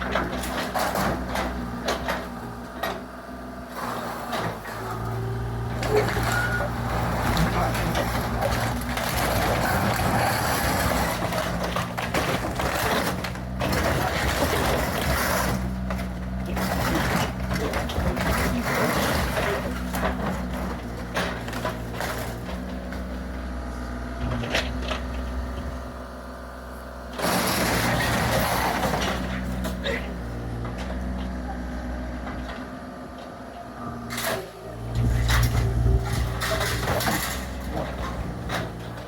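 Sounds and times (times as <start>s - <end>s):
debris clattering and crunching: 0.0s - 3.2s, 3.8s - 26.1s, 27.2s - 31.4s, 34.1s - 39.0s
diesel engine running: 0.0s - 39.0s.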